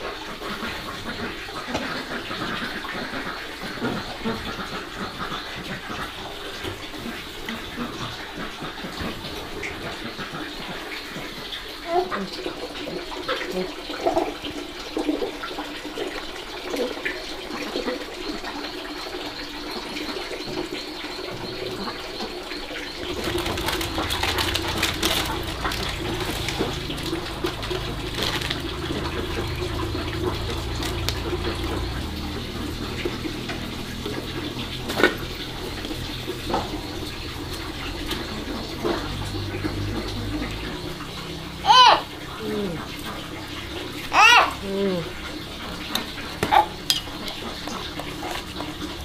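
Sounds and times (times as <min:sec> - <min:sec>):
running water: 0:00.0 - 0:49.0.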